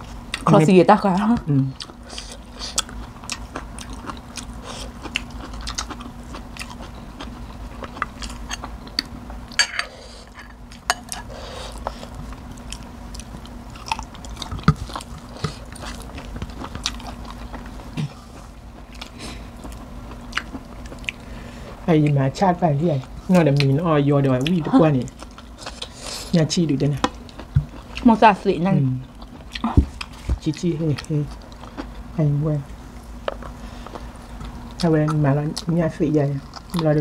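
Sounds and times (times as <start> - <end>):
people chewing food: 0.0 - 37.0
steady low hum: 0.0 - 37.0.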